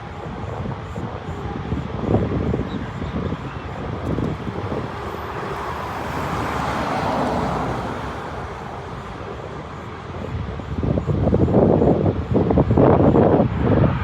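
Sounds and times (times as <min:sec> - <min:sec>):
jet engines of landing plane: 0:00.0 - 0:14.0.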